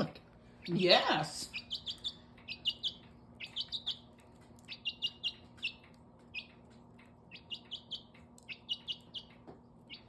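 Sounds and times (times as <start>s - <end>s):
chick peeping: 0.5s - 10.0s.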